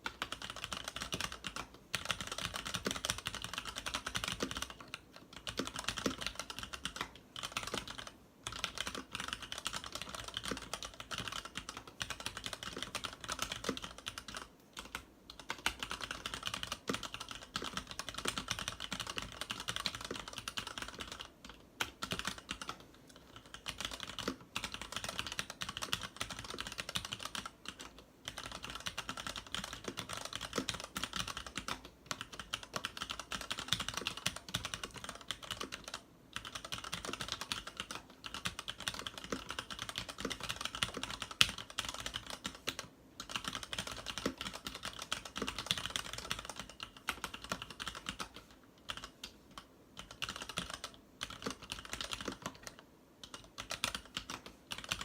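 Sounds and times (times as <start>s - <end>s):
mechanical keyboard typing: 0.0s - 55.0s.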